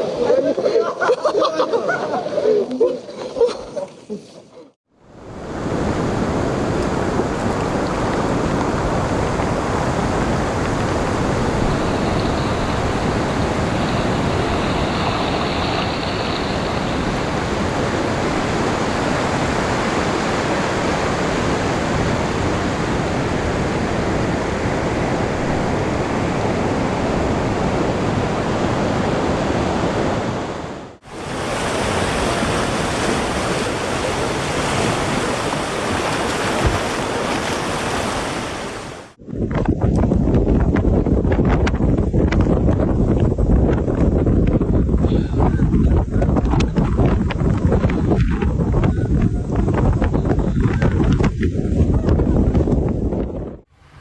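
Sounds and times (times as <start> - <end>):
rushing noise of stormy weather: 4.9 - 54.0.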